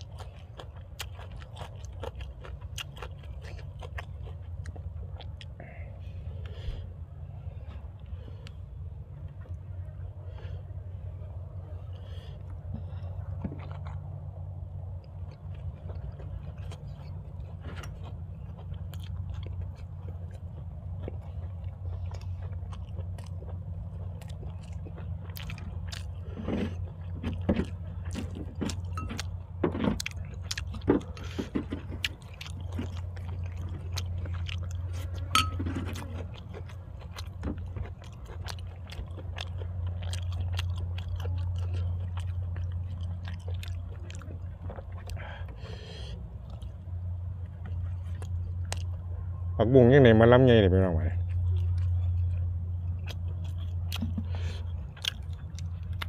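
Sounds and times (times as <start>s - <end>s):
chewing and crunching food: 0.0s - 56.0s
steady low hum: 0.0s - 56.0s.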